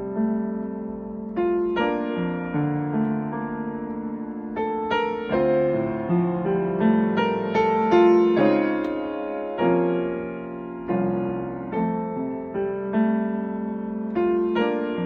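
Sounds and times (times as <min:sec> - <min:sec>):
slow solo piano hymn: 0:00.0 - 0:15.0.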